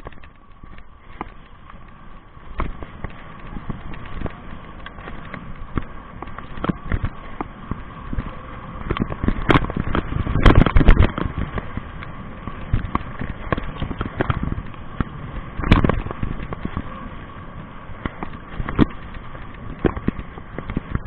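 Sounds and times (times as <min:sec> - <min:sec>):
bike rattling over rough trail: 0:00.0 - 0:21.0.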